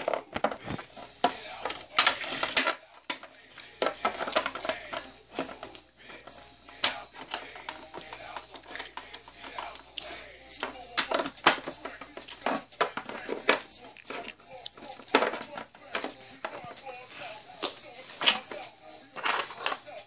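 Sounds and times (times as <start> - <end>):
plastic toys clicking and clattering: 0.0 - 20.0.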